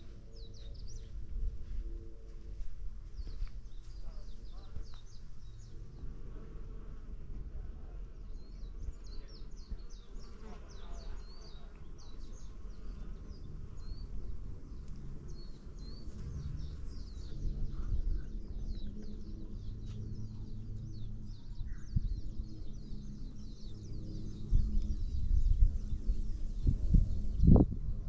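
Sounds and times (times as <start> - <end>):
birds chirping: 0.0 - 27.8
low rumble: 0.0 - 28.0
bees buzzing: 4.7 - 27.6.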